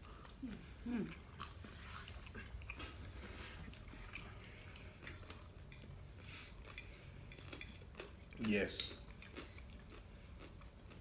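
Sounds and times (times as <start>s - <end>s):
quiet chewing of noodles: 0.0s - 11.0s.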